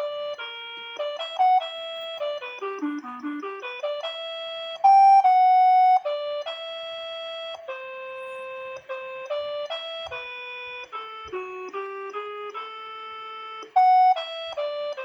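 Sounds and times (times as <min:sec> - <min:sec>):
electronic organ-like waltz melody: 0:00.0 - 0:15.0.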